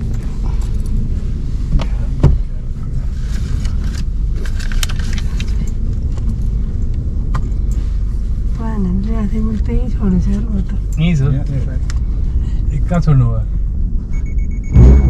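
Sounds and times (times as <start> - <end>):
car rumble inside cabin: 0.0 - 15.0.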